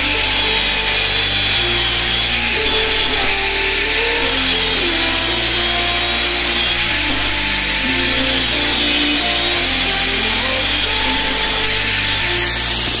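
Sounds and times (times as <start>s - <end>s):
angle grinder cutting steel: 0.0s - 13.0s
background music with bass line: 0.0s - 13.0s.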